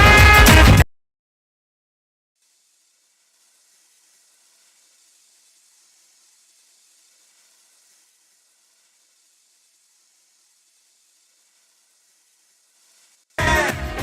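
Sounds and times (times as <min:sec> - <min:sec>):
faint steady hiss: 0:02.4 - 0:13.9.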